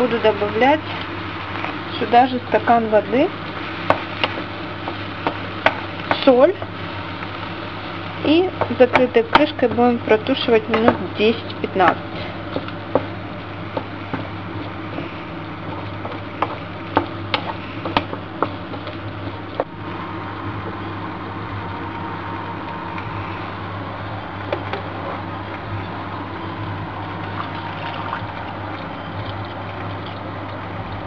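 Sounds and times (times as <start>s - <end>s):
mince sizzling in pan: 0.0s - 31.0s.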